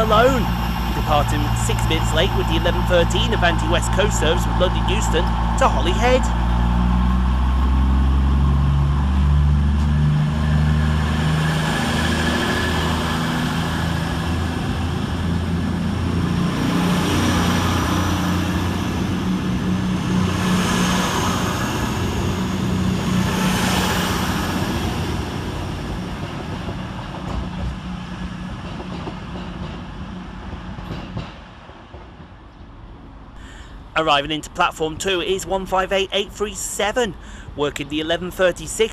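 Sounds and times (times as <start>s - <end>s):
diesel train engines drumming: 0.0s - 38.9s.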